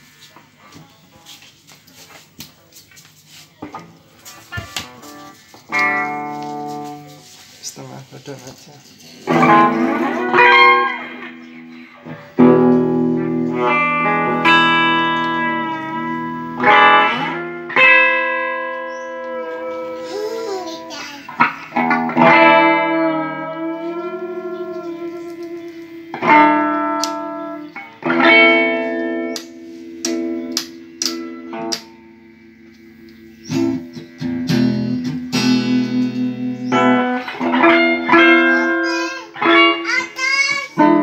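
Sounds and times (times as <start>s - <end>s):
electric guitar with vibrato: 4.2s - 7.6s, 8.4s - 41.0s.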